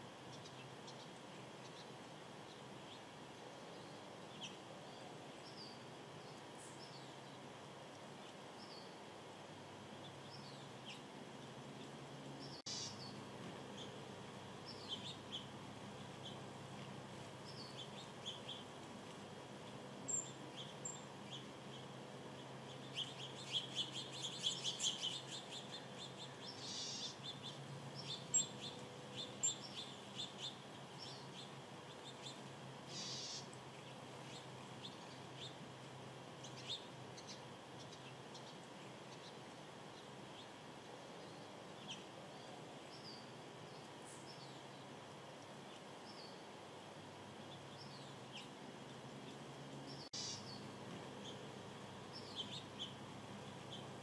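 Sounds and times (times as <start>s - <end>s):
faint background hiss: 0.0s - 54.0s
small birds chirping: 0.0s - 54.0s.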